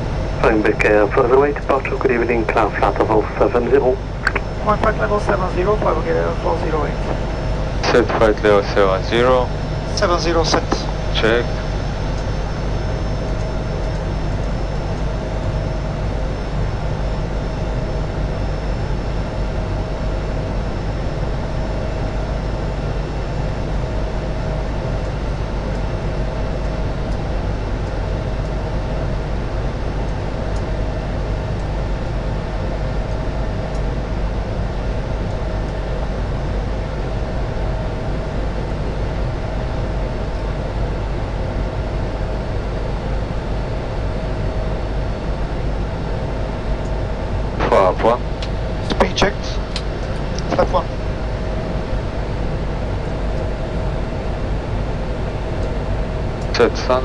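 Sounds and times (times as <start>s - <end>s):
airflow and engine rush: 0.0s - 57.0s.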